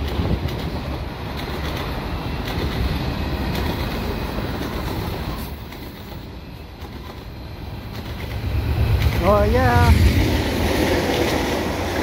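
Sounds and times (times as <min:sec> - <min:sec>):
train wheels rolling on rail: 0:00.0 - 0:12.0.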